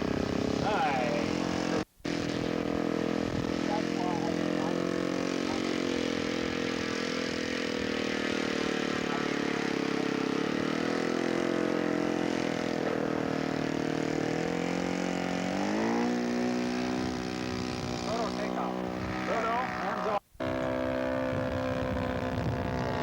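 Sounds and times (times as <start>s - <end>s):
model airplane engine buzzing: 0.0s - 23.0s.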